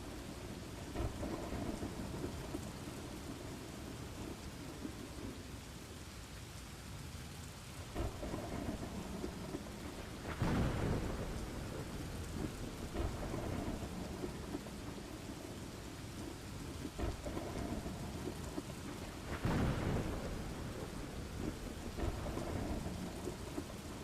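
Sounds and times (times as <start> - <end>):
rolling thunder: 0.0 - 5.5, 8.0 - 24.0
rain falling: 0.0 - 24.0.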